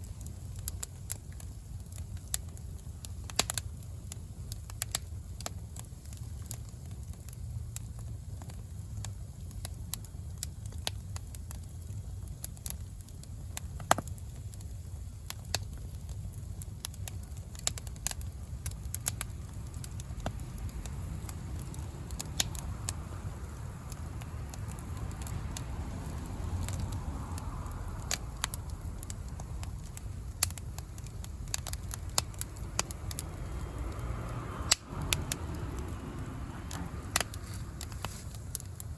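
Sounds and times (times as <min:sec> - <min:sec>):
bonfire crackling and popping: 0:00.0 - 0:38.9
low fire rumble: 0:00.0 - 0:38.9.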